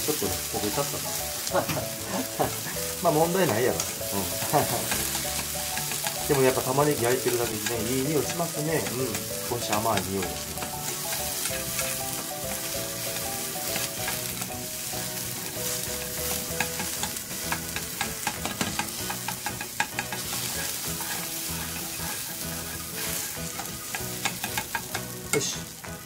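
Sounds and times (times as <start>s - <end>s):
onions sizzling in a frying pan: 0.0s - 26.0s
chopsticks tapping and scraping pan: 0.2s - 26.0s.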